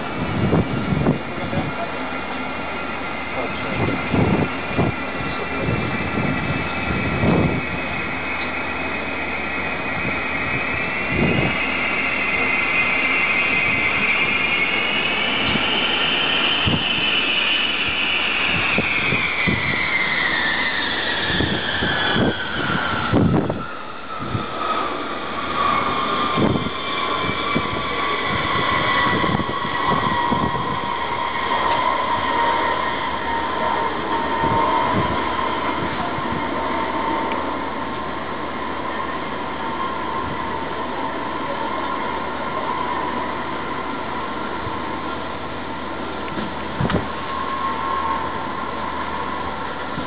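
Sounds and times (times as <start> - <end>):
jet engines whining: 0.0 - 50.0.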